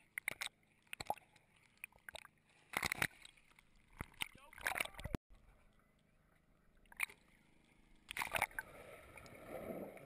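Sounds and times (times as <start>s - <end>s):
water splashing: 0.0s - 5.8s, 6.7s - 10.0s
water sloshing against camera: 0.0s - 10.0s.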